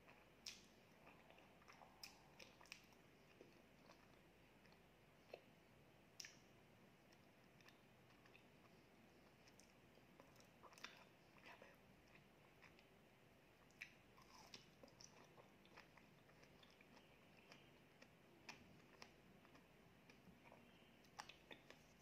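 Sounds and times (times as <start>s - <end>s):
person chewing soft cake: 0.0s - 22.0s.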